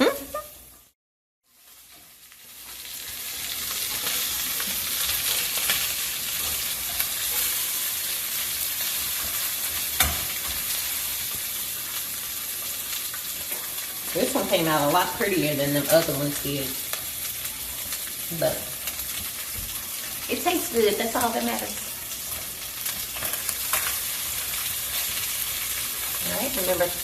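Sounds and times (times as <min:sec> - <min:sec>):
fish sizzling in frying pan: 0:00.6 - 0:27.0.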